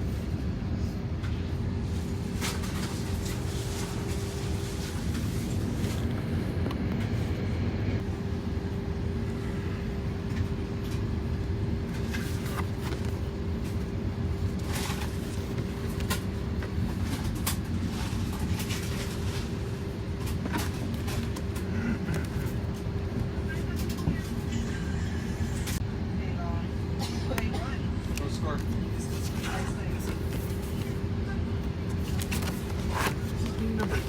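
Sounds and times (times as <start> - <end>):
airplane cabin rumble: 0.0 - 34.0
constant hum: 0.0 - 34.0.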